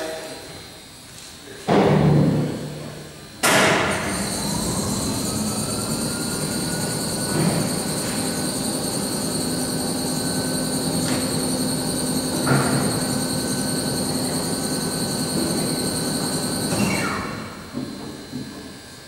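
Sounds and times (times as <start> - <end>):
electric hoist whining: 2.8 - 19.0.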